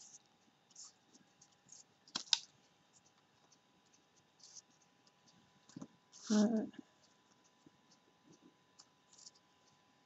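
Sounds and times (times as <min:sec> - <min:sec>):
paper rustling: 0:00.0 - 0:09.8.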